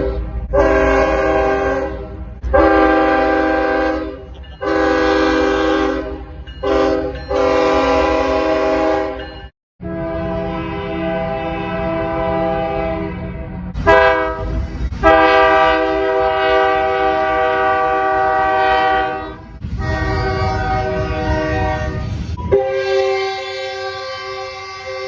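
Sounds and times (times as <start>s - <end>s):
train horn blasts: 0.0s - 25.0s.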